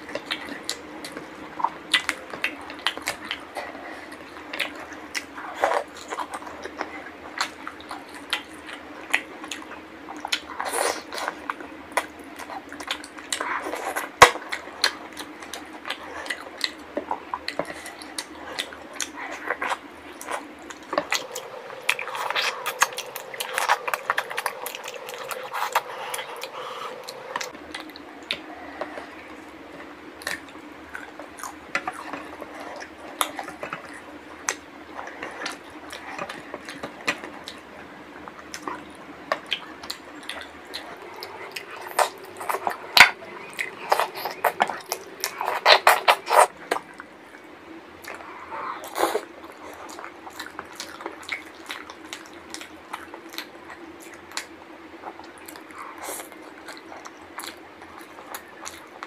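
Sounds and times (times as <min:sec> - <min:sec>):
wet chewing and lip smacks: 0:00.0 - 0:59.0.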